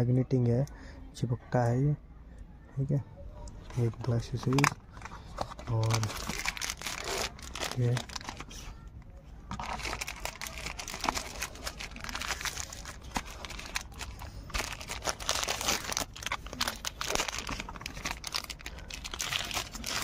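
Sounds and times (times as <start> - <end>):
packaging wrap crinkling: 3.6 - 20.0.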